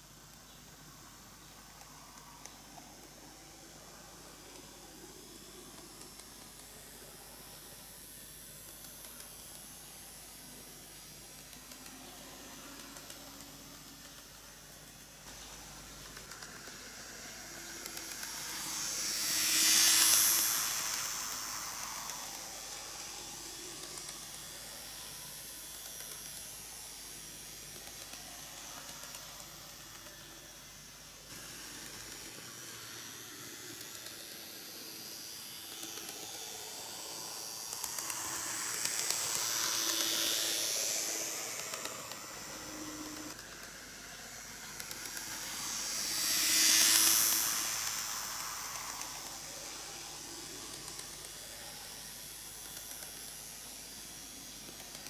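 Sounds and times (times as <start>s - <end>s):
model train running on track: 0.0s - 55.0s
small motor whine: 0.0s - 55.0s.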